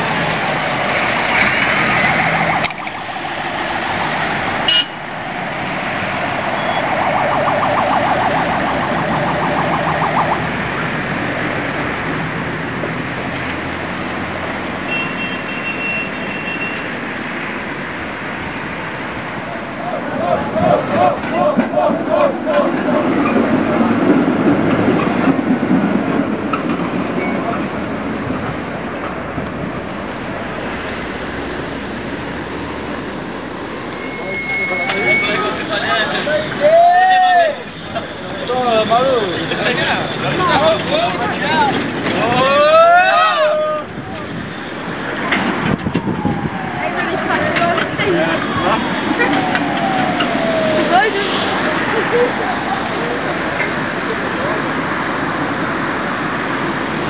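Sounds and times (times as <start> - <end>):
tram wheels rushing: 0.0 - 14.9, 16.8 - 57.0
passing traffic: 0.0 - 57.0.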